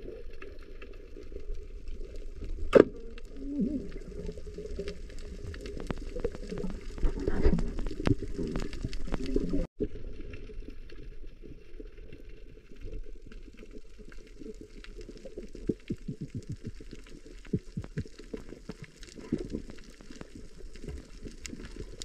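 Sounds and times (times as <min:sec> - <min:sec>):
reef clicks and crackles: 0:00.0 - 0:22.0
underwater gurgling and bubbling: 0:00.0 - 0:22.0.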